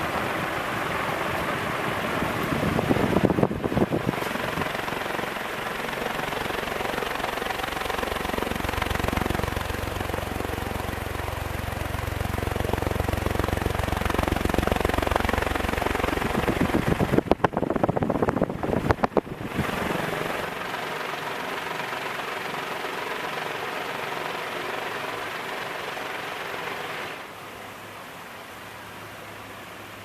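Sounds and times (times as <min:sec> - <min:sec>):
ceiling fan motor hum: 0:00.0 - 0:30.0.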